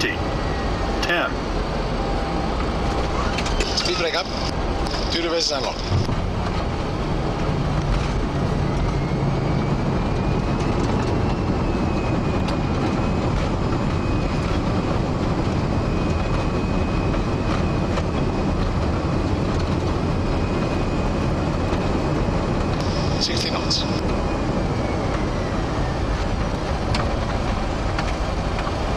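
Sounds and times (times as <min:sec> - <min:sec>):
high engine whine: 0:00.0 - 0:28.9
wheels rumbling on runway: 0:00.0 - 0:28.9.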